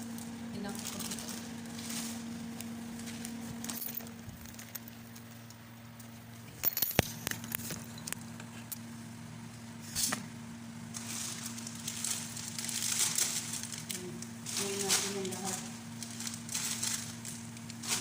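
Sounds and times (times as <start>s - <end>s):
steady electric hum: 0.0s - 18.0s.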